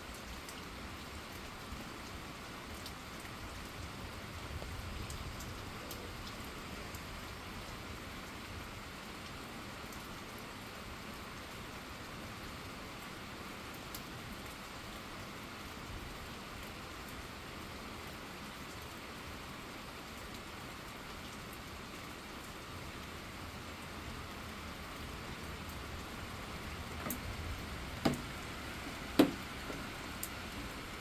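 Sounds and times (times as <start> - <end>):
raindrops ticking close by: 0.0 - 31.0
steady rain on road: 0.0 - 31.0.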